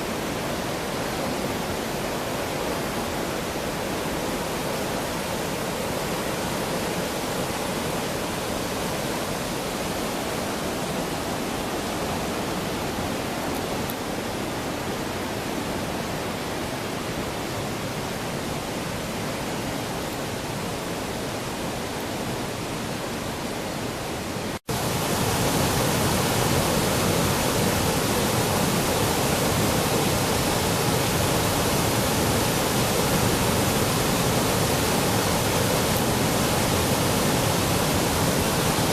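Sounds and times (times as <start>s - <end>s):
waterfall rushing roar: 0.0s - 38.9s.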